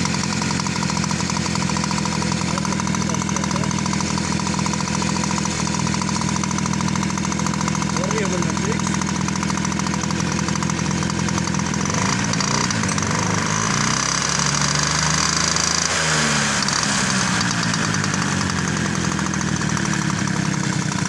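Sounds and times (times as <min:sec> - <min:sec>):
moped engine revving: 0:00.0 - 0:21.0.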